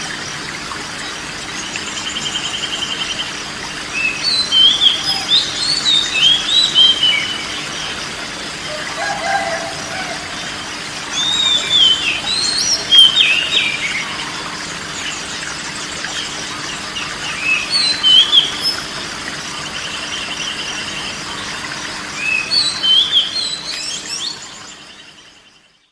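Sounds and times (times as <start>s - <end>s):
songbird singing: 1.1s - 25.9s.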